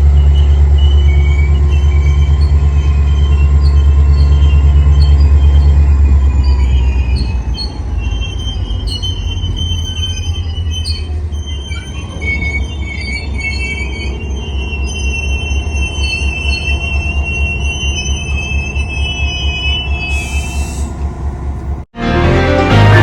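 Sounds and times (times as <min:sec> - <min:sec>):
train wheels squealing: 0:00.0 - 0:21.7
train rumbling: 0:00.0 - 0:21.9.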